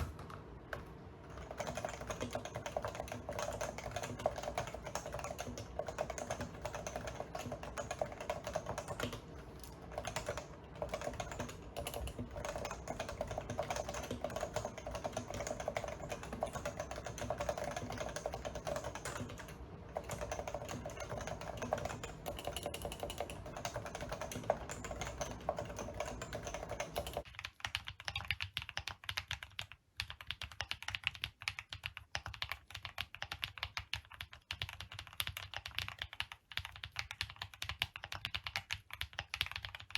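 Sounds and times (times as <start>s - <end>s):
fast typing on keyboard: 1.2s - 39.9s.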